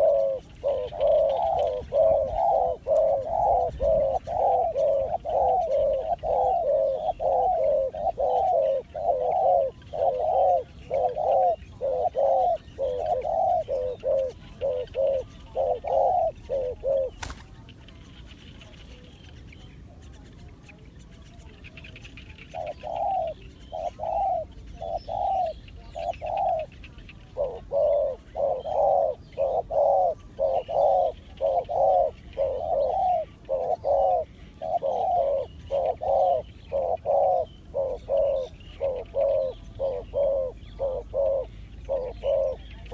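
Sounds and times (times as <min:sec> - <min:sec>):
dove cooing: 0:00.0 - 0:18.3, 0:22.4 - 0:42.9
small birds chirping: 0:00.0 - 0:42.9.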